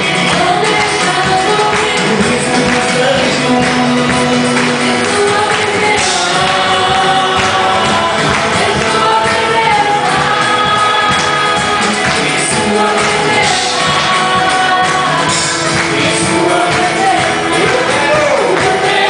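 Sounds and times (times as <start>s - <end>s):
group singing gospel over band: 0.0s - 19.0s.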